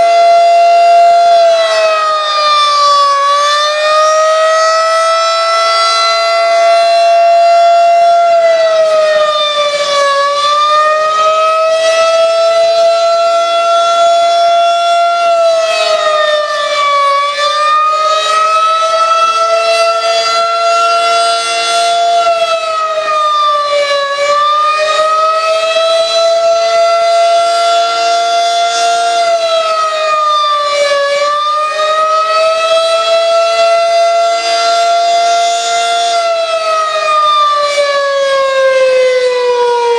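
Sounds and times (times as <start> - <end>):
civil defense siren: 0.0 - 39.9.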